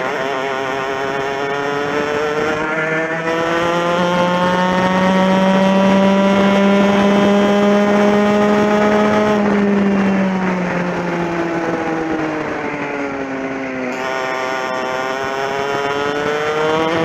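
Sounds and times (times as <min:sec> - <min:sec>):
kart engine at high revs: 0:00.0 - 0:17.0.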